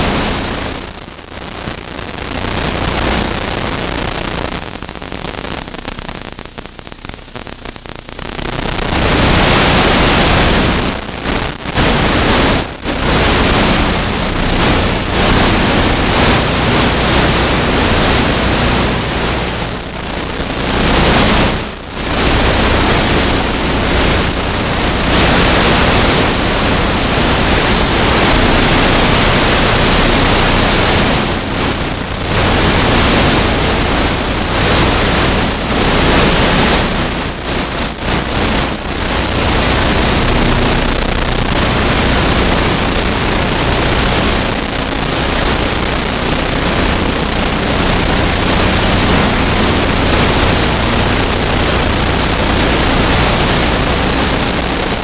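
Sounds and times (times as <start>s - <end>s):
loud steady rushing hiss: 0.0s - 55.0s.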